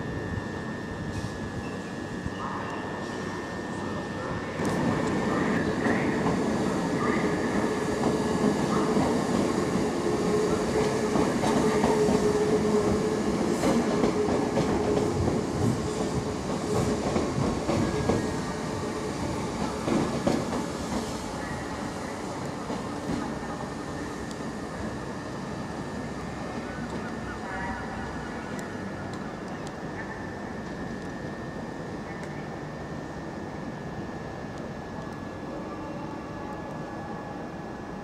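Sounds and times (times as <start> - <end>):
electric train running on tracks: 0.0 - 38.0.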